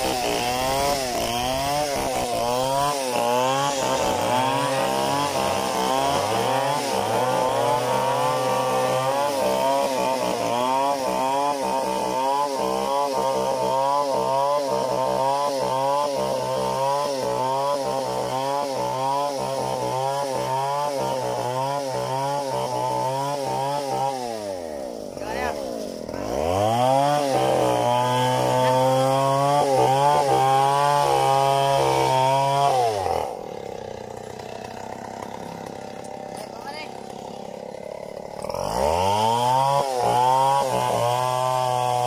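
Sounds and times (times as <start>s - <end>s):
chainsaw cutting log: 0.0s - 42.0s.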